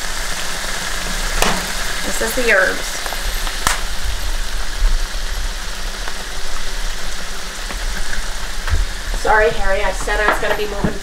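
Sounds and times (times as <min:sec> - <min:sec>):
sauce sizzling in frying pan: 0:00.0 - 0:11.0.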